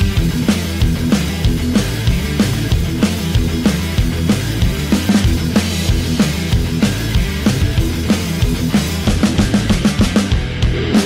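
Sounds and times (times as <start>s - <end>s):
rock music with driving drums: 0.0s - 11.0s.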